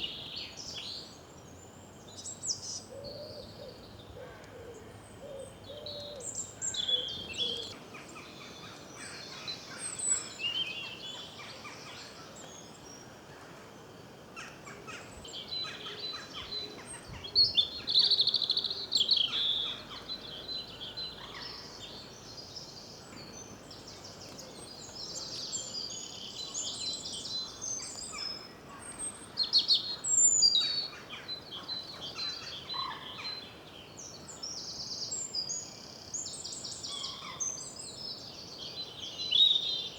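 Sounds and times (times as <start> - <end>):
wild birds singing and calling: 0.0 - 39.9.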